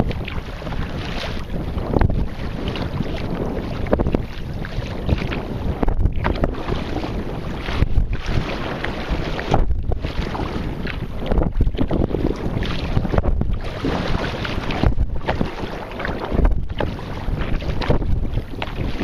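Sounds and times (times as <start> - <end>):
water splashing and lapping: 0.0 - 19.0
wind buffeting microphone: 0.0 - 19.0.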